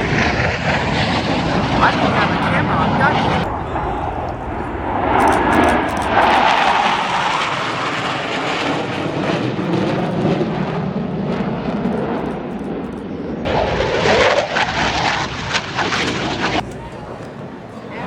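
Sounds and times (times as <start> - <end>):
aircraft flying past: 0.0 - 18.0.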